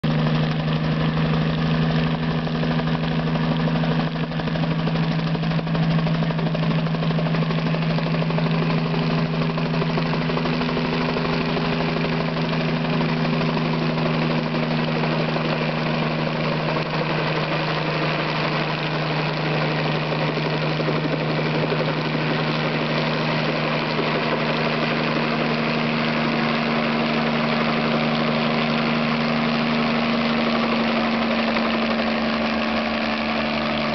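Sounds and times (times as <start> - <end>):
model helicopter engine and rotors: 0.0 - 33.9.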